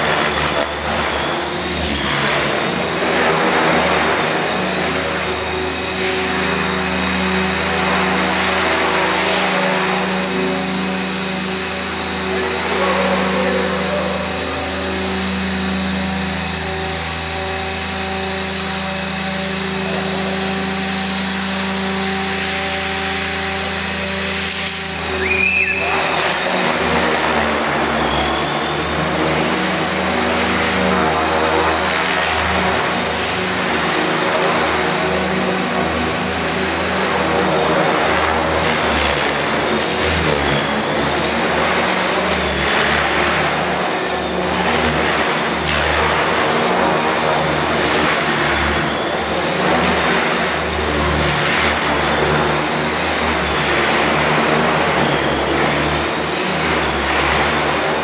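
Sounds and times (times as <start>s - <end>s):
rc helicopter motor and rotors: 0.0s - 58.0s.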